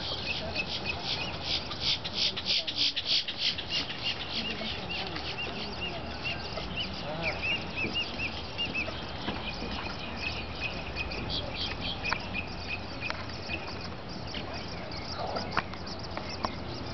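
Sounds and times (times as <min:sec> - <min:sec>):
chicks peeping: 0:00.0 - 0:16.9.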